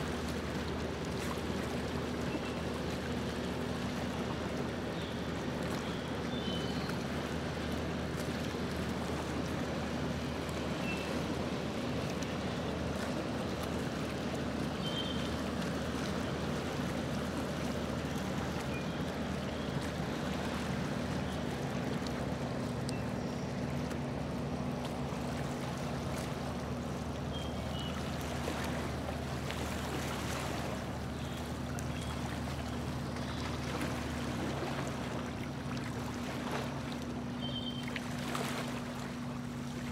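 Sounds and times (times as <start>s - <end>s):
motorboat engine running: 0.0s - 39.9s
water rushing along hull: 0.0s - 39.9s.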